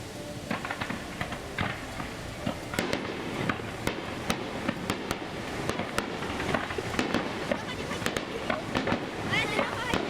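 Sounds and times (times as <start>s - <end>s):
fireworks cracking and popping: 0.0s - 10.0s.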